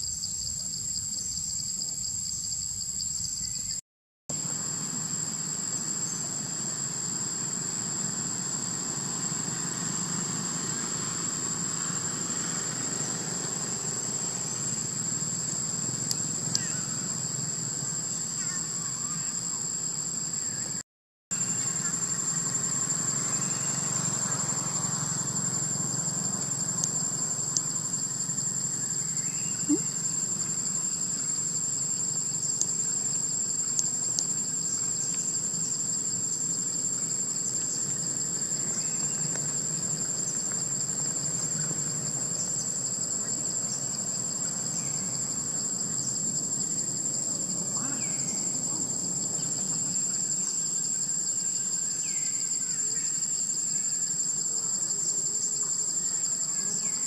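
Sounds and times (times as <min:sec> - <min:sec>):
insects calling drone: 0:00.0 - 0:57.0.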